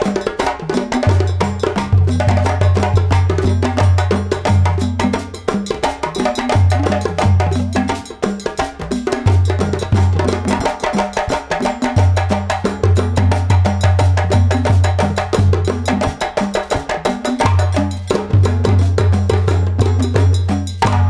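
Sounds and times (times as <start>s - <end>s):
fast dense percussion: 0.0s - 21.0s.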